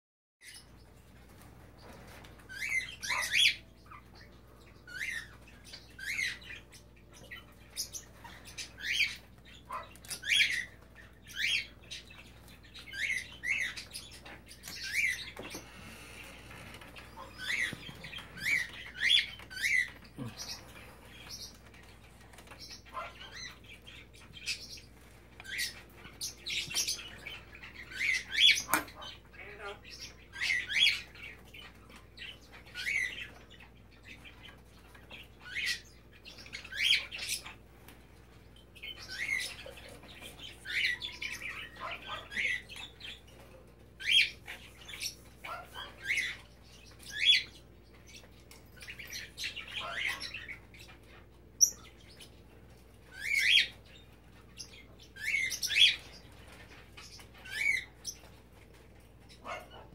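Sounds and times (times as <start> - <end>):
pet birds chirping: 0.4 - 59.9.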